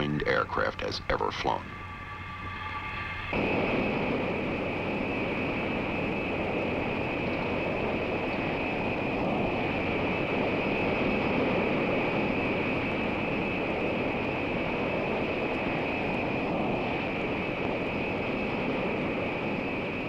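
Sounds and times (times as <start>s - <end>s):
high whine: 0.0s - 20.0s
jet engines running: 0.0s - 20.0s.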